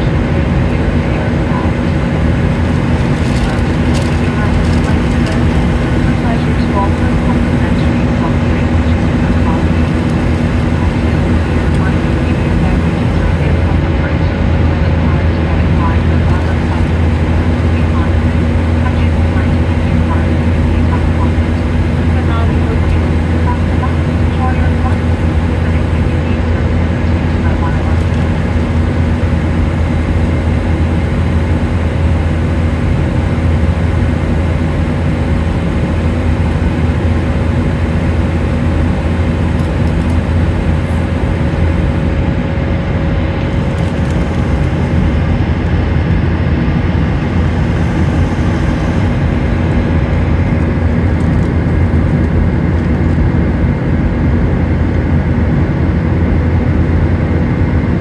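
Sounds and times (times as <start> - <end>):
faint steady hum: 0.0 - 58.0
jet engines droning: 0.0 - 58.0.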